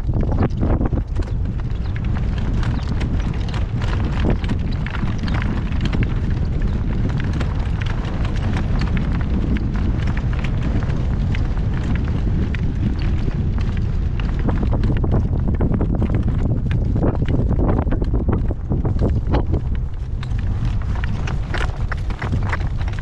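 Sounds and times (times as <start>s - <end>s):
cart rumbling: 0.0s - 23.0s
horse hoofbeats trotting: 0.0s - 23.0s.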